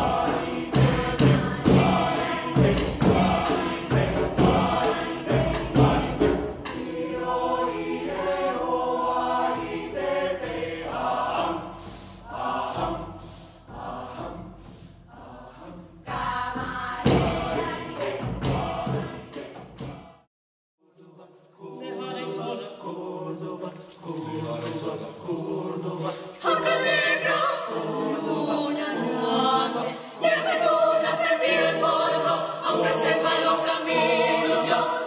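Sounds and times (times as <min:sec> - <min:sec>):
vocal ensemble singing in harmony: 0:00.0 - 0:35.0.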